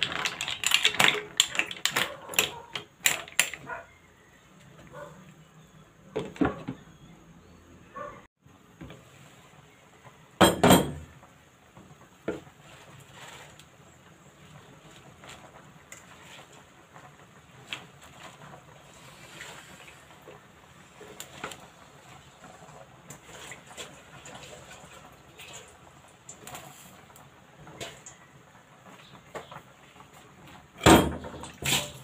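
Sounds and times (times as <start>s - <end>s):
mussels simmering in broth: 0.0s - 4.8s, 11.0s - 32.0s.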